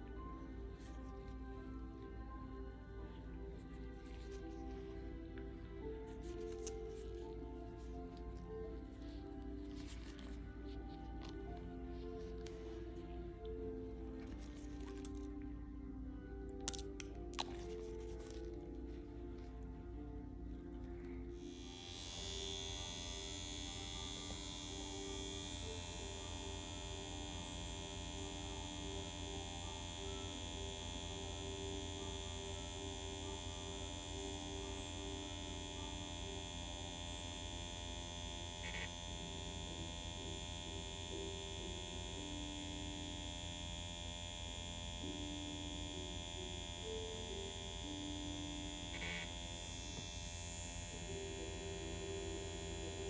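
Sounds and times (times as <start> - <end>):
permanent-makeup machine buzzing: 0.0 - 53.0.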